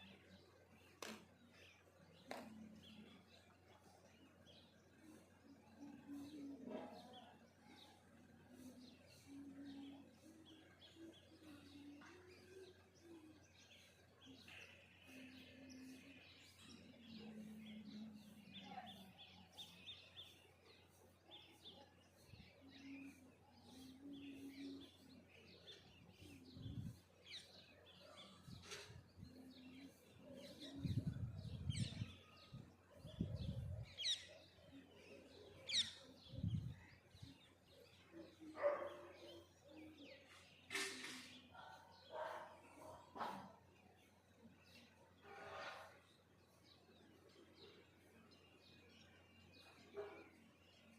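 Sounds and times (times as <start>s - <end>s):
birds chirping: 0.0s - 50.9s
low steady bird notes: 0.0s - 50.9s.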